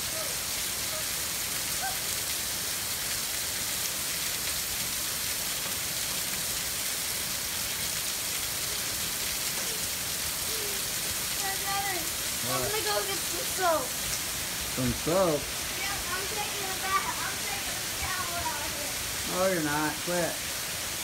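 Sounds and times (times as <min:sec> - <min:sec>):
heavy rain falling: 0:00.0 - 0:21.0
water splashing onto concrete: 0:00.0 - 0:21.0.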